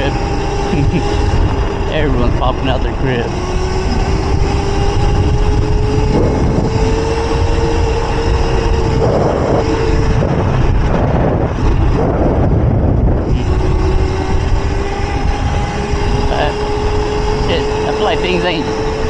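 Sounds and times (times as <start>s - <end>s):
electric motor whining: 0.0s - 19.0s
wind rumble on microphone: 0.0s - 19.0s.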